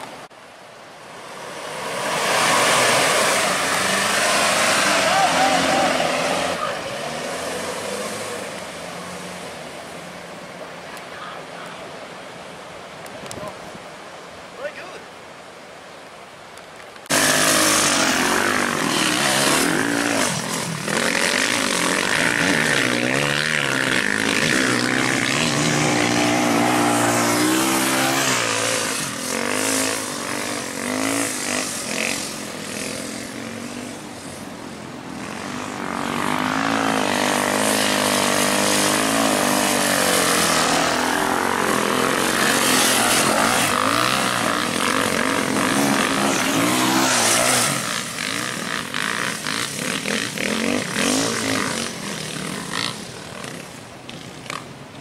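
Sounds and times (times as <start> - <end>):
dirt bike engines revving: 1.1 - 12.6, 17.1 - 55.0.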